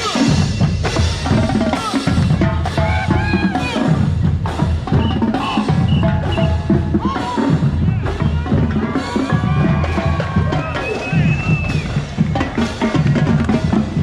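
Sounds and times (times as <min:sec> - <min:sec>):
marching band playing: 0:00.0 - 0:14.0
snare and bass drums beating: 0:00.0 - 0:14.0.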